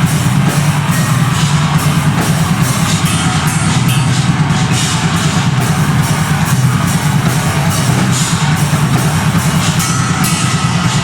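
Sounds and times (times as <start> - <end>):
distorted guitars and bass: 0.0 - 11.0
rapid drum strokes: 0.0 - 11.0.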